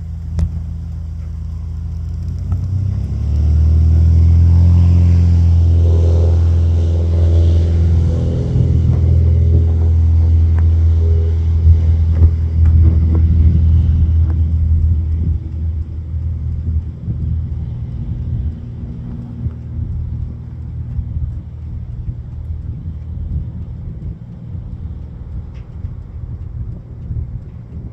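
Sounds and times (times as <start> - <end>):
airplane engines rumbling on takeoff: 0.0 - 27.9.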